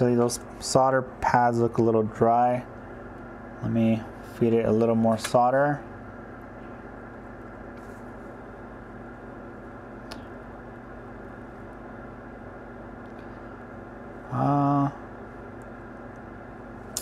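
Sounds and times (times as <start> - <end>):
fan-like hiss: 0.0 - 17.0
low electrical hum: 0.0 - 17.0.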